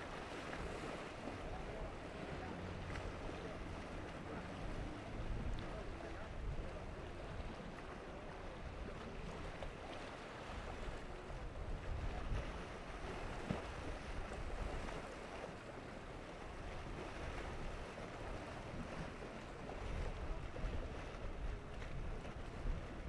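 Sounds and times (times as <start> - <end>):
hull slapping through waves: 0.0 - 23.0.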